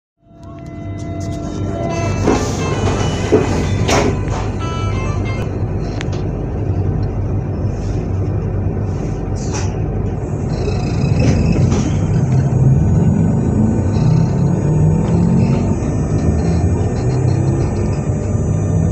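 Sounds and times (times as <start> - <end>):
low rumble: 0.2 - 18.9
train electrical whine: 0.2 - 18.9.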